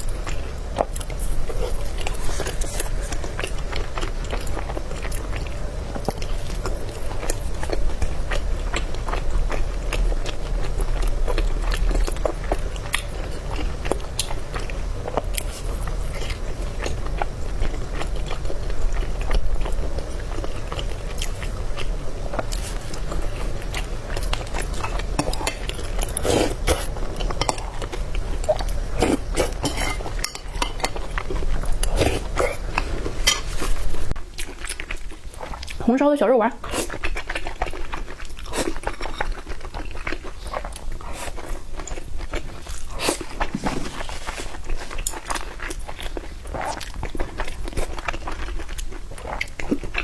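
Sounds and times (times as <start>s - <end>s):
chewing and biting food: 0.0s - 35.9s, 36.6s - 50.0s
steady low hum: 0.0s - 50.0s.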